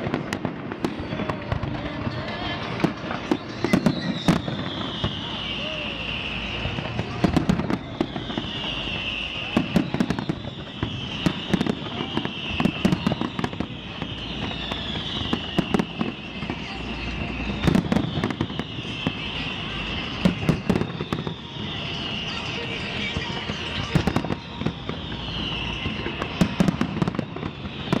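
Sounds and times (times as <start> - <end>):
falling firework whistle: 0.0 - 28.0
fireworks crackling and banging: 0.0 - 28.0.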